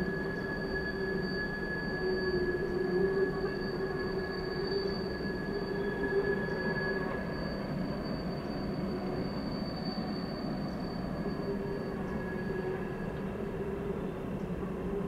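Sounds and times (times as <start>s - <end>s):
train wheels squealing: 0.0s - 15.0s.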